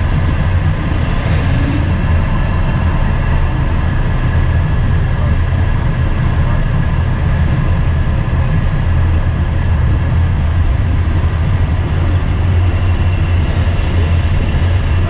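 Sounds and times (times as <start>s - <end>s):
faint steady tones: 0.0s - 15.0s
jet cabin rumble: 0.0s - 15.0s.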